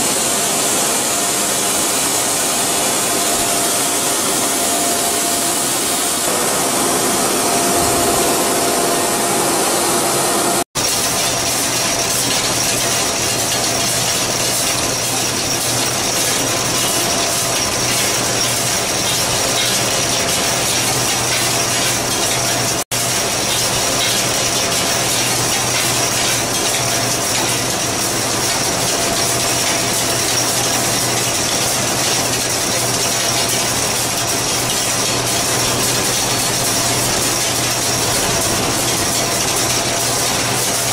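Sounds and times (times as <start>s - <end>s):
machinery din with hum: 0.0s - 40.9s.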